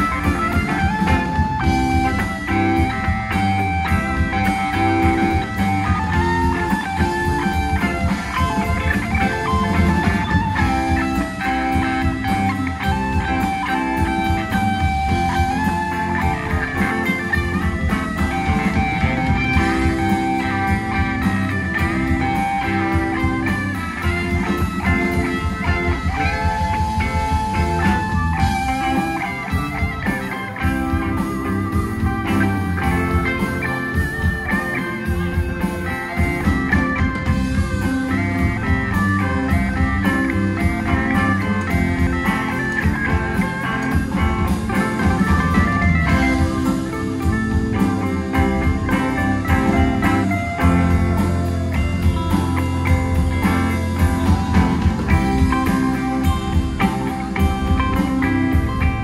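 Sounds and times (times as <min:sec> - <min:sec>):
blues rock band playing: 0:00.0 - 0:59.0
electric guitar bending notes: 0:00.0 - 0:59.0.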